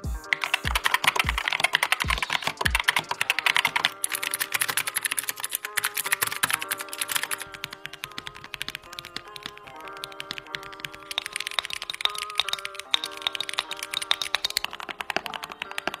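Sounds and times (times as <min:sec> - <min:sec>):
clicky keyboard switches: 0:00.0 - 0:16.0
fast typing on mechanical keyboard: 0:00.0 - 0:16.0
quiet background music: 0:00.0 - 0:16.0.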